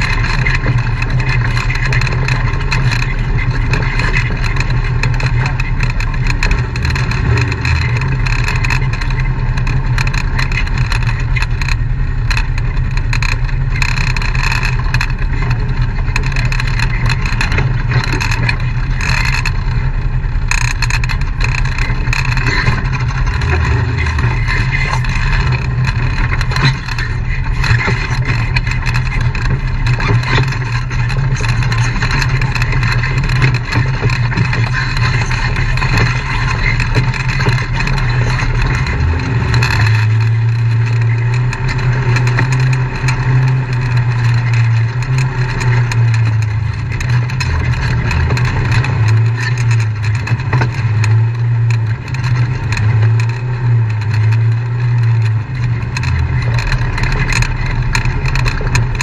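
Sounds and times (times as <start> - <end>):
off-road vehicle engine running: 0.0 - 59.0
vehicle rattles and knocks: 0.0 - 59.0.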